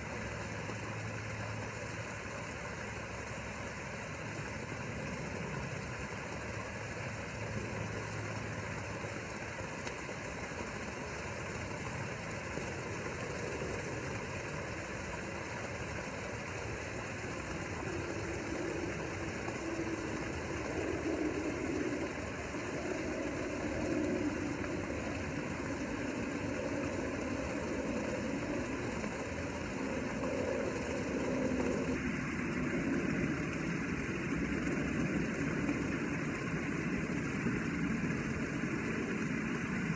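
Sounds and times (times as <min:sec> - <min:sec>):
low running hum: 0:00.0 - 0:39.9.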